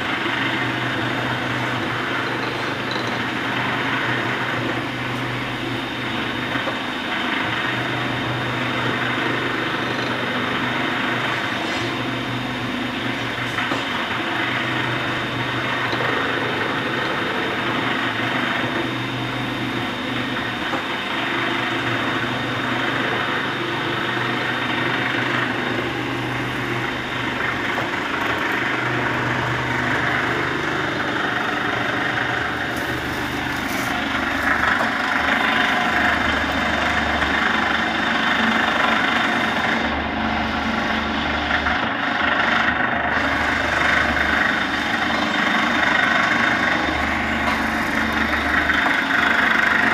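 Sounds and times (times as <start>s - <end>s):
machine motor humming: 0.0s - 49.9s.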